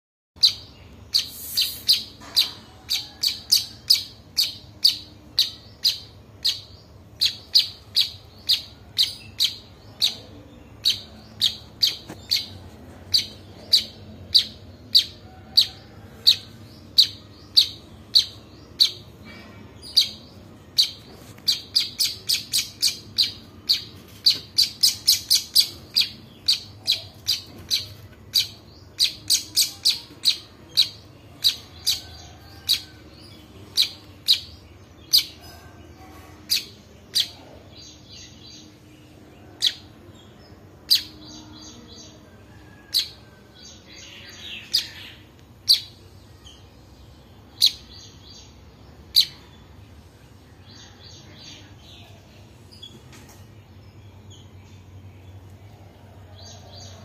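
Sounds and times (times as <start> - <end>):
fledgling bird chirping: 0.4 - 57.0.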